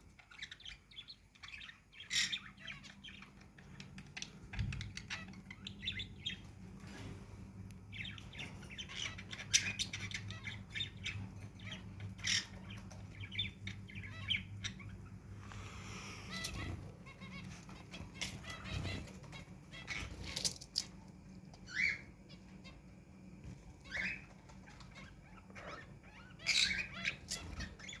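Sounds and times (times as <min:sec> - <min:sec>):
cage birds chirping and calling: 0:00.0 - 0:28.0
steady low hum: 0:00.0 - 0:28.0.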